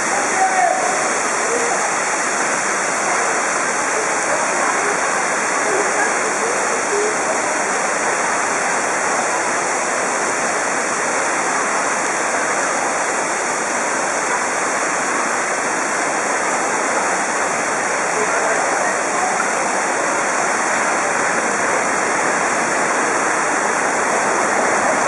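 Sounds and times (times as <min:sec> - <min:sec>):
heavy rain on a glass roof: 0:00.0 - 0:25.0.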